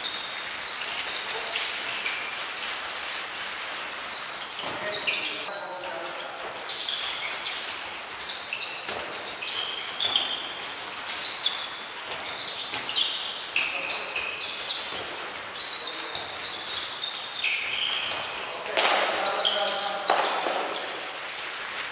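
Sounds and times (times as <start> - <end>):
light footfalls: 0.0 - 21.9
shoes squeaking on floor: 0.0 - 21.9.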